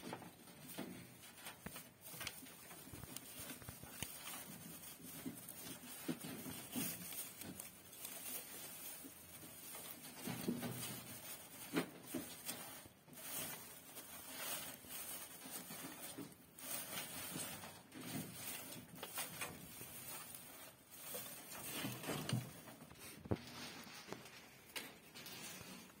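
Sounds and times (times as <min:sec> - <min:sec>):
dry straw rustling and crackling: 0:00.0 - 0:26.0.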